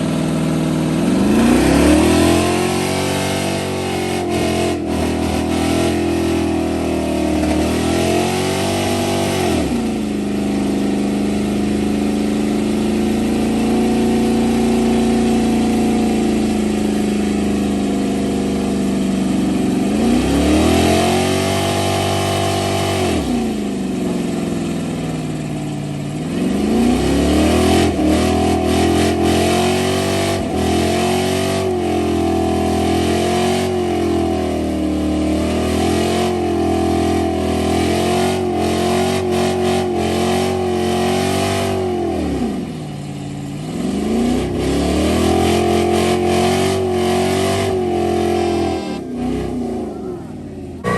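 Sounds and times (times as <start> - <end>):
truck engine revving: 0.0 - 50.9.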